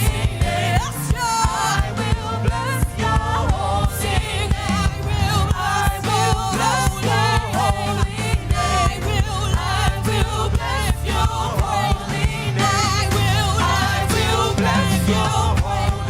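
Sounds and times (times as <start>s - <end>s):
bass line: 0.0s - 16.0s
drum beat: 0.0s - 16.0s
people singing with vibrato: 0.0s - 16.0s.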